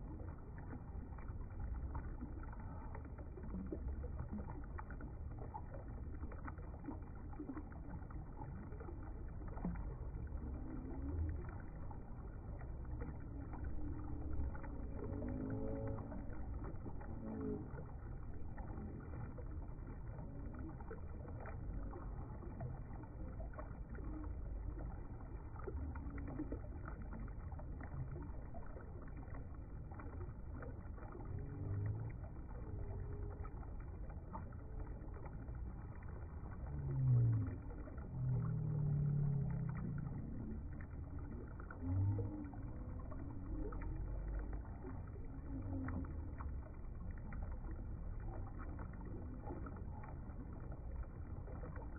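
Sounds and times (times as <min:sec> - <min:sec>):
river water gurgling over rocks: 0:00.0 - 0:51.9.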